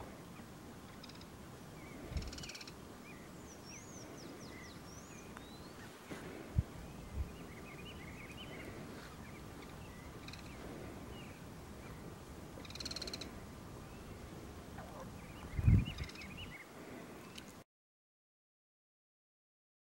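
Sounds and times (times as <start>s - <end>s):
birds chirping: 0.0s - 17.6s.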